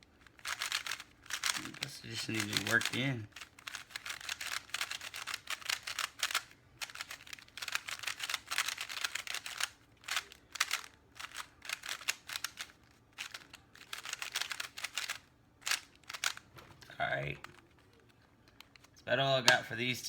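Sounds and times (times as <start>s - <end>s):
puzzle cube clicking and scraping: 0.0s - 19.6s.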